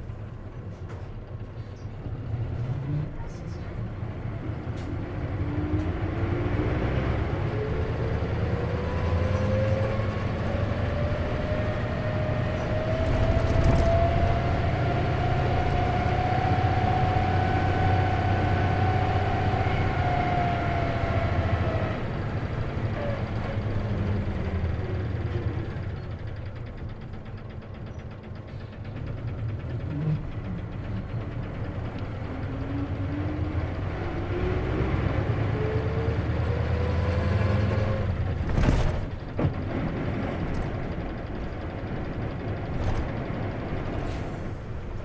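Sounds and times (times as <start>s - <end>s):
bus diesel engine rumble: 0.0s - 45.0s.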